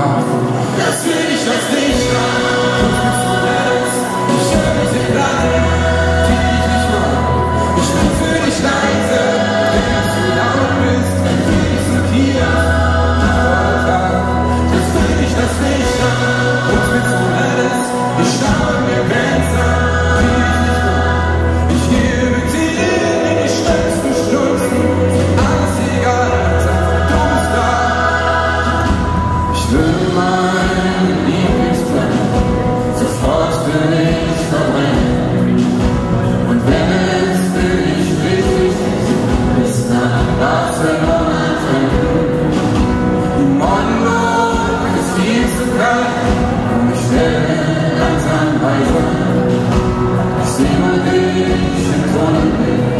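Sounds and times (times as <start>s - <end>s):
bass: 0.0s - 52.9s
choir singing: 0.0s - 52.9s
drums: 0.0s - 52.9s
guitar: 0.0s - 52.9s
lead singer singing: 0.0s - 52.9s.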